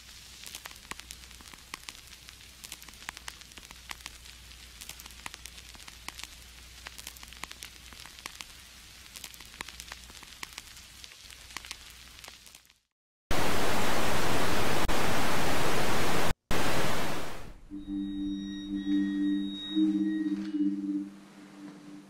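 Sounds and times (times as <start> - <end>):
record surface hiss: 0.0 - 22.0.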